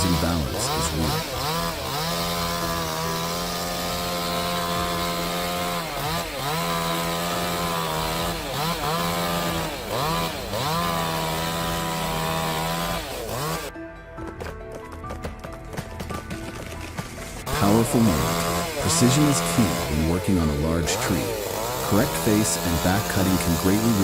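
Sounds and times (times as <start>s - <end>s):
chainsaw cutting wood: 0.0s - 13.7s, 16.1s - 24.0s.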